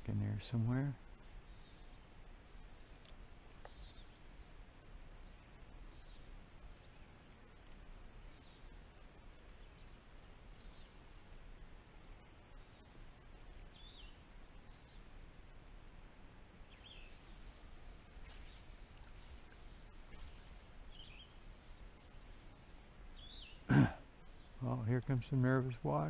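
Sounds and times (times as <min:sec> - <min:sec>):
bird chirping: 0:00.0 - 0:02.2, 0:02.8 - 0:04.5, 0:05.2 - 0:11.3, 0:12.0 - 0:15.2, 0:16.6 - 0:26.0
faint hiss: 0:00.0 - 0:26.0
insect drone: 0:00.0 - 0:26.0.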